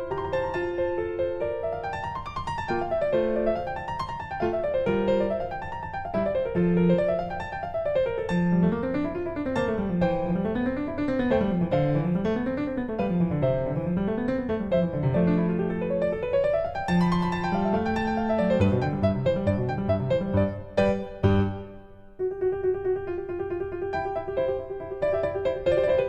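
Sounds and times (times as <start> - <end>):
piano music with runs: 0.0 - 26.0.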